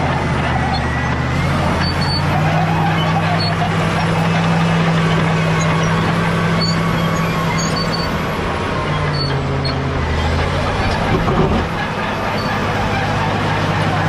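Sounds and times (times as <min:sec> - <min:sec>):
bulldozer diesel engine under load: 0:00.0 - 0:14.0.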